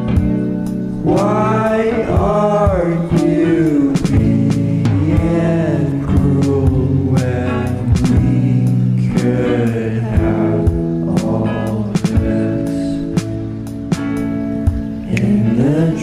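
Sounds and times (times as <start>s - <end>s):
backing music with steady beat: 0.0s - 16.0s
person singing: 0.9s - 13.4s, 15.0s - 16.0s.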